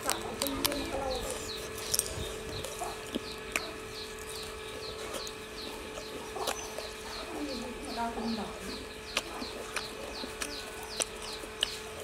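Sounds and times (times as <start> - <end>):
beetle being chewed crunching: 0.0 - 12.0.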